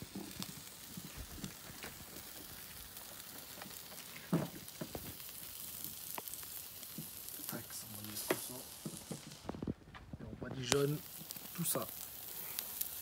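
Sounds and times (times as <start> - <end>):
steak sizzling on a grill: 0.0 - 9.8, 10.4 - 13.0.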